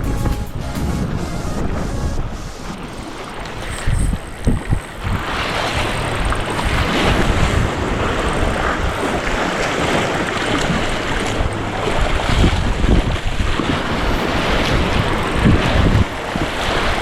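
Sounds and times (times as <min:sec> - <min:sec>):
sea surf washing: 0:00.0 - 0:17.0
wind buffeting microphone: 0:00.0 - 0:17.0.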